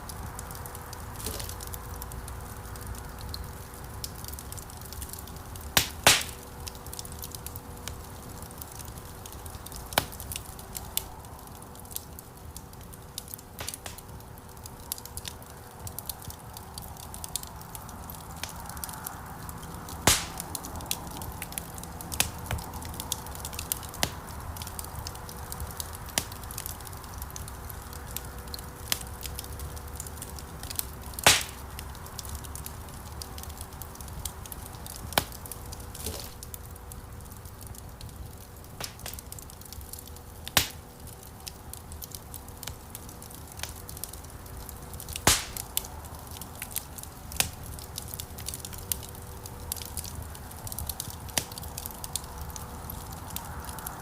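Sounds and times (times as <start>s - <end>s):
low rumble of flames: 0.0s - 54.0s
wood fire crackling: 0.0s - 54.0s.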